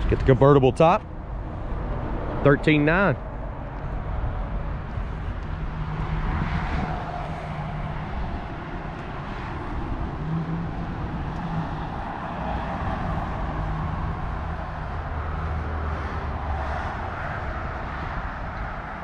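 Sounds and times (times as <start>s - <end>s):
road traffic rushing: 0.0s - 19.0s
vehicle engine drone: 0.0s - 19.0s.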